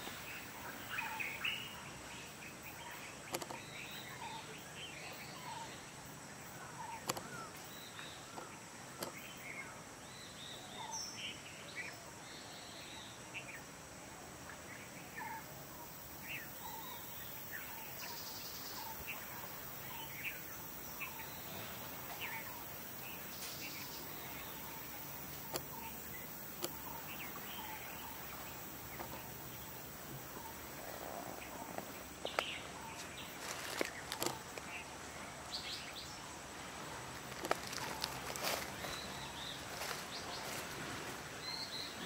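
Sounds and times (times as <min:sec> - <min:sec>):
background hiss: 0:00.0 - 0:42.0.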